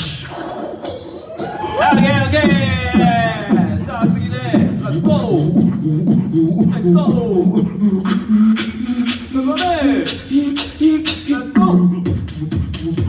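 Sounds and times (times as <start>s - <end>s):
hummed beatbox bass line: 0.0s - 13.0s.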